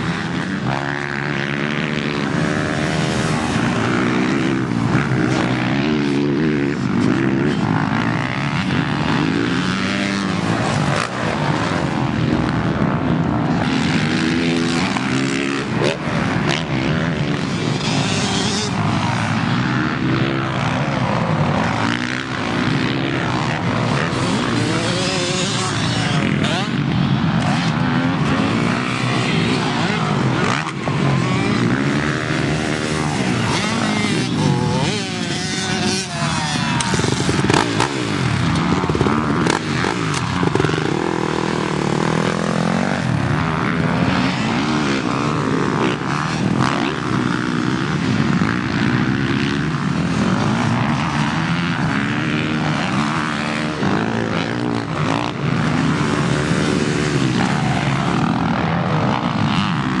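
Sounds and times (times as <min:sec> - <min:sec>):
dirt bike engines revving: 0:00.0 - 1:00.0.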